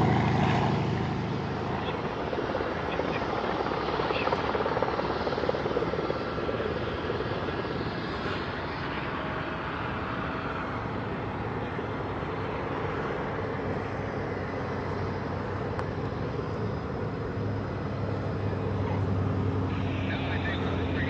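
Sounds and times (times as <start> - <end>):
broad rushing noise: 0.0 - 21.0
propeller plane engine drone: 0.0 - 21.0.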